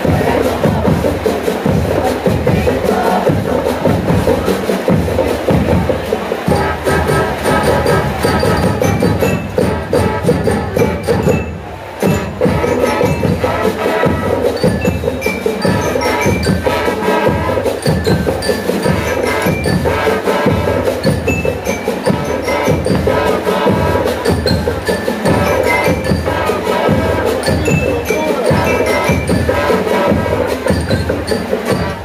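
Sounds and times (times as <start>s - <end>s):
brass melody: 0.0s - 32.0s
snare and bass drum beat: 0.0s - 32.0s.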